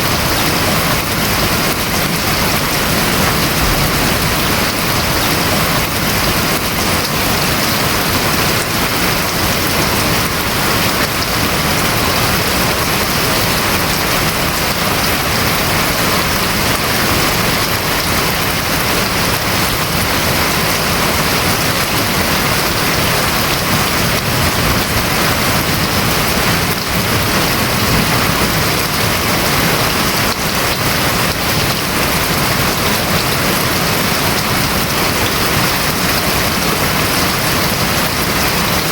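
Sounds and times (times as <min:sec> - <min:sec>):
heavy rain drumming on roof: 0:00.0 - 0:38.9.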